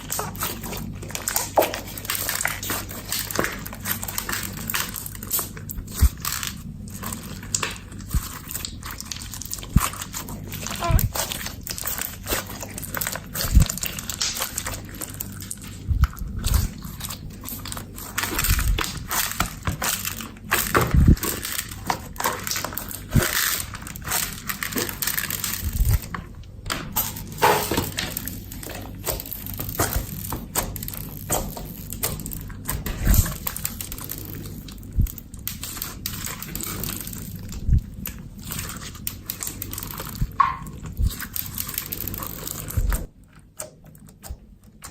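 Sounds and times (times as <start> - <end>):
slime being squished by hand: 0.0 - 44.9.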